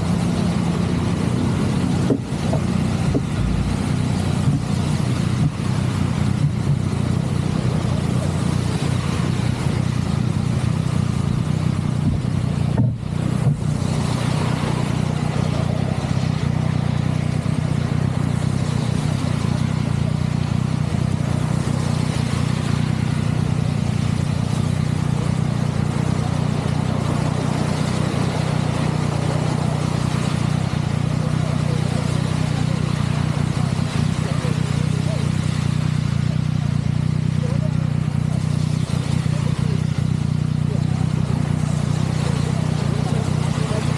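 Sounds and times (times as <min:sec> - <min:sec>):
road noise: 0:00.0 - 0:43.9
vehicle engine hum: 0:00.0 - 0:43.9.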